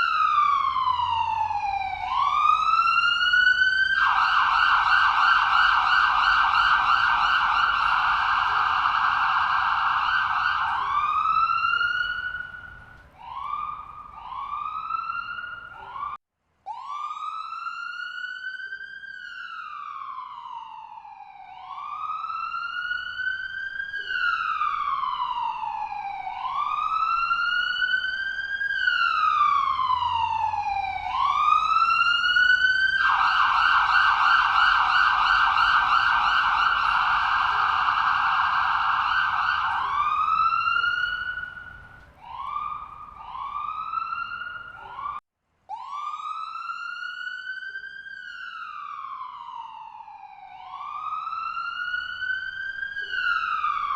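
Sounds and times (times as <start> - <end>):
ambulance siren: 0.0 - 53.9.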